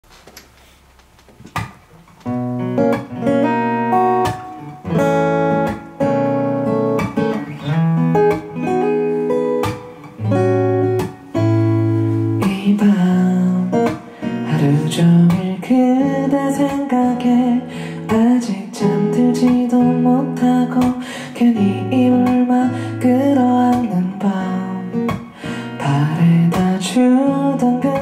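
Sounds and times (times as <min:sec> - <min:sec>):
acoustic guitar chords: 0:01.6 - 0:28.0.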